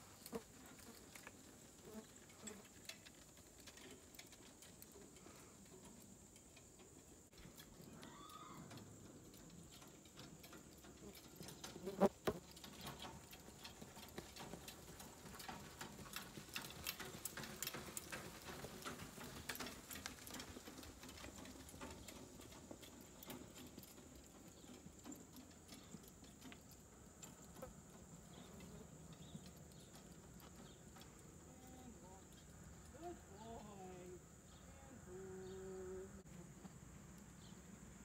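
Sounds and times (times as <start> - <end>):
horse hooves clip-clop: 0.0 - 34.6, 35.5 - 38.0.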